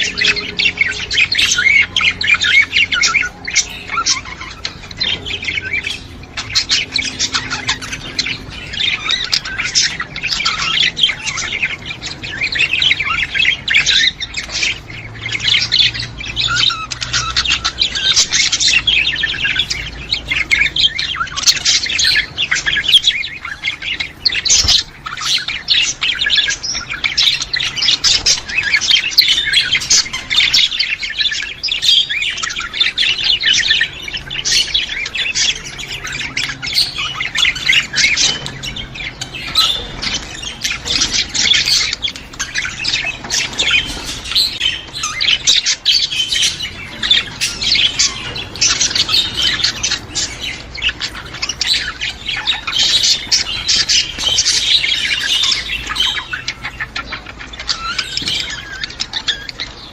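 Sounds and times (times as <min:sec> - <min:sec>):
budgerigars chattering and squawking: 0:00.0 - 0:59.9.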